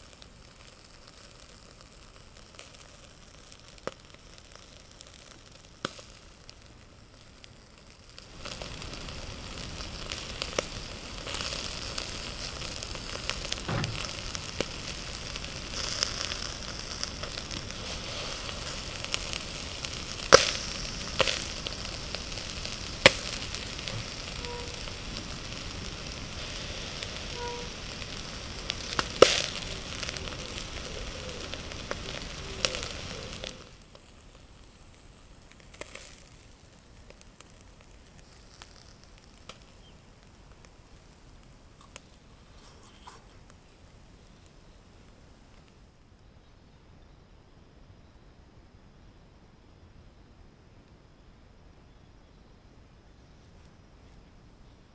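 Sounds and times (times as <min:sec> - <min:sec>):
fish sizzling on grill: 0:00.0 - 0:45.7
sharp crackling pops: 0:00.0 - 0:46.0.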